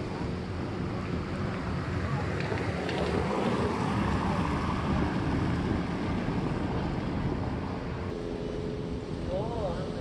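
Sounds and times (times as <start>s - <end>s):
wind buffeting microphone: 0.0s - 9.3s
outdoor rushing noise: 0.0s - 10.0s.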